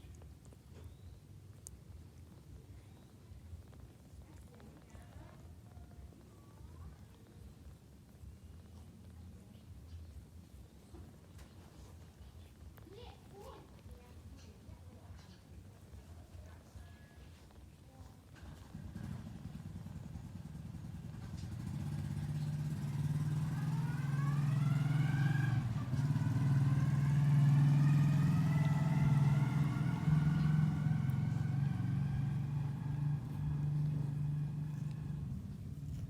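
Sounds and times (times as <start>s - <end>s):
cat purring: 0.0s - 23.4s, 25.6s - 36.0s.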